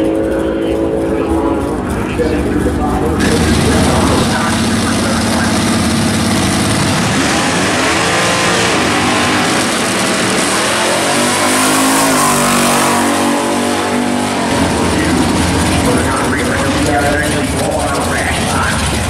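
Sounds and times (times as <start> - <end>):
drag car engine accelerating: 0.0 - 19.0.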